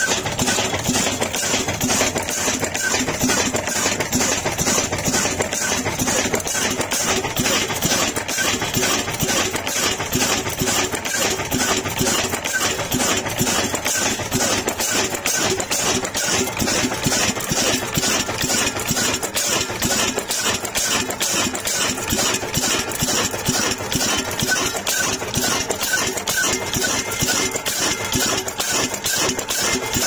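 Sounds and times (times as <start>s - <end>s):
diesel engine clattering: 0.0s - 30.0s.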